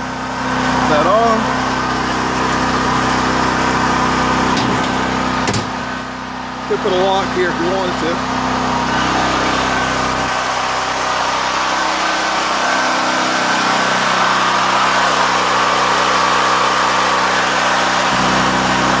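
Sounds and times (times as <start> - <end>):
generator engine running: 0.0 - 19.0.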